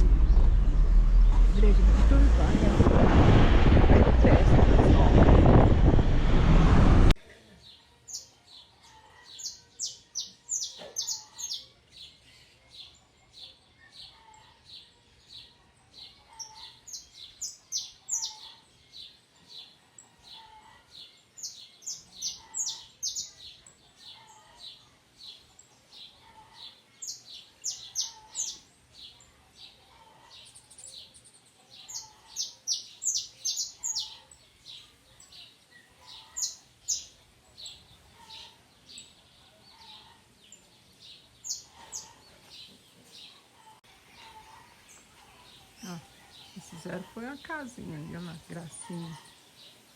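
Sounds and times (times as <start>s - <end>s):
small birds chirping: 7.5s - 49.9s.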